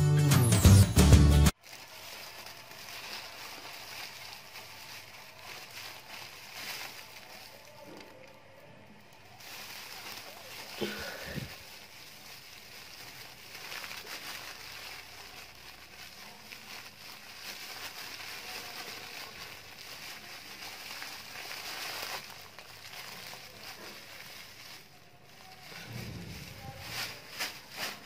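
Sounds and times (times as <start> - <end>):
plastic bag crinkling: 1.5 - 28.0.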